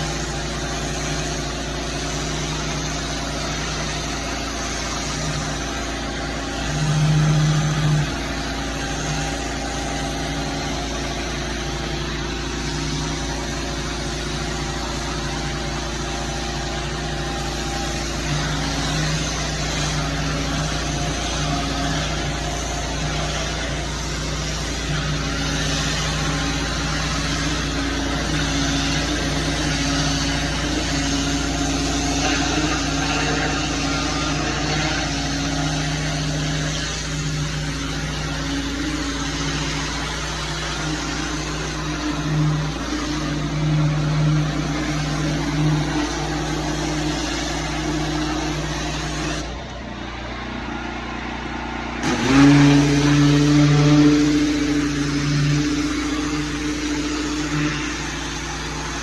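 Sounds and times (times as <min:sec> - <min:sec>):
hiss of water spray: 0:00.0 - 0:49.6, 0:52.0 - 0:59.0
pressure washer engine running: 0:00.0 - 0:59.0.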